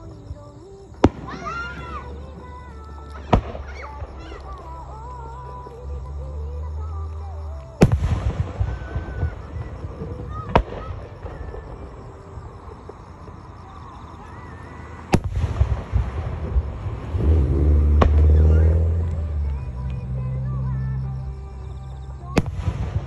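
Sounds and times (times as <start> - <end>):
rolling rumble of echo: 0.0 - 23.0.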